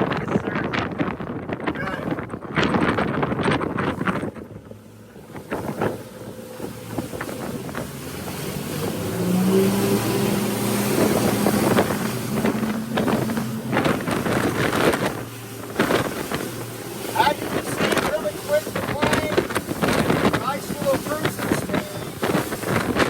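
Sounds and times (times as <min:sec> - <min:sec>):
outboard engines throttling up: 0:00.0 - 0:23.0
wind rushing over microphone: 0:00.0 - 0:23.0.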